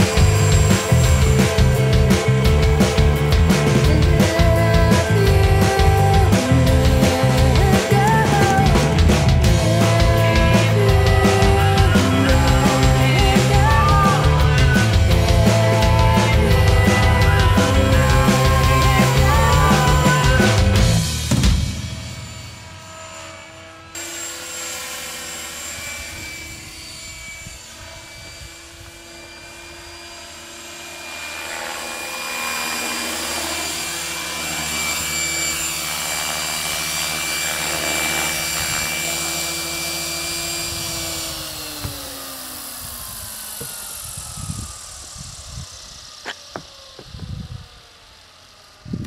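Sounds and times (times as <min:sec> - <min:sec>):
model helicopter rotor whine: 0:00.0 - 0:49.0.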